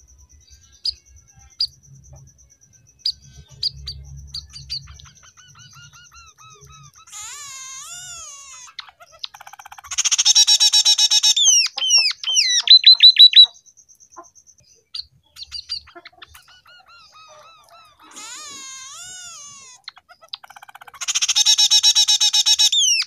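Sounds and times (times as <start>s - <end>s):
bird singing whistled trills: 0.0s - 18.0s, 19.5s - 23.0s.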